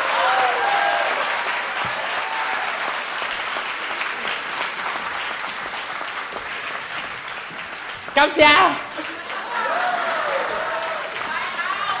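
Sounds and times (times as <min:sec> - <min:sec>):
applause: 0:00.0 - 0:12.0.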